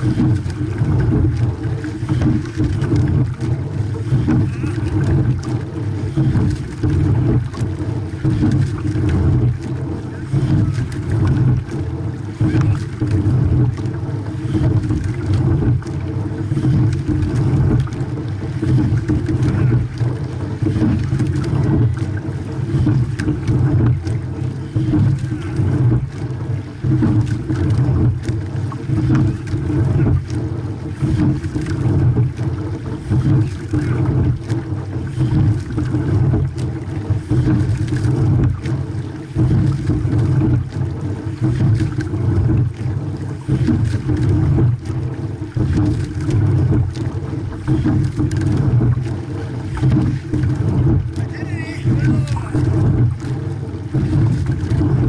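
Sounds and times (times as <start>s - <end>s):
oars clicking and knocking: 0.0s - 55.0s
water rushing along a hull: 0.0s - 55.0s
wind on microphone: 0.0s - 55.0s.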